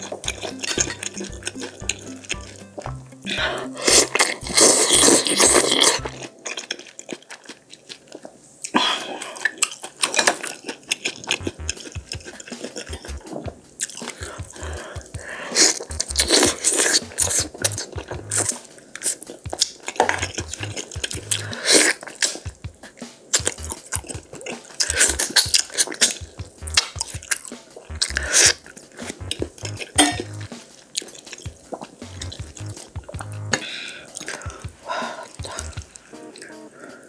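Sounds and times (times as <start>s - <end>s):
wet chewing and smacking: 0.0s - 22.6s, 23.3s - 36.1s.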